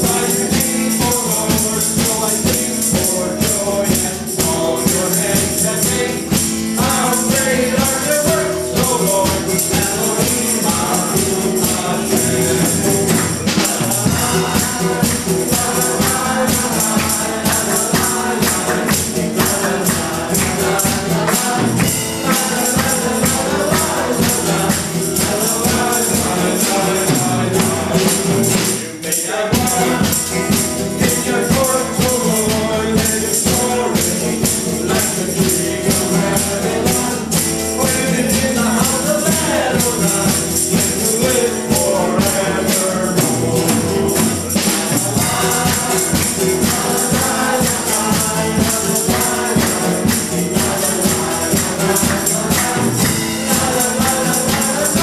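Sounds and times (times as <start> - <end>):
acoustic guitar: 0.0 - 55.0
drum kit: 0.0 - 55.0
jingling percussion: 0.0 - 55.0
voices singing together: 0.0 - 55.0.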